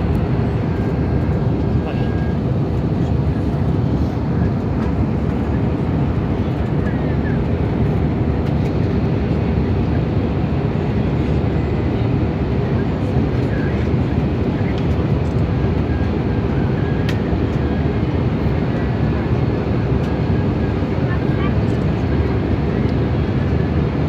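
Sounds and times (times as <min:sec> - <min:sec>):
airliner cabin engine rush: 0:00.0 - 0:24.0.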